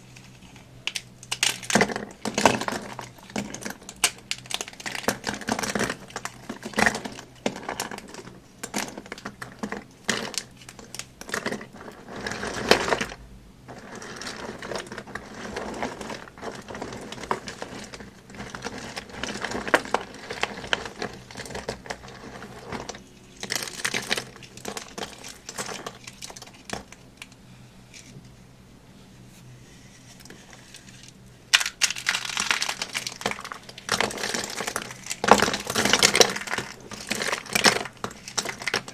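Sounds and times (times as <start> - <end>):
dry soap crunching: 0.0 - 28.2, 29.7 - 38.9.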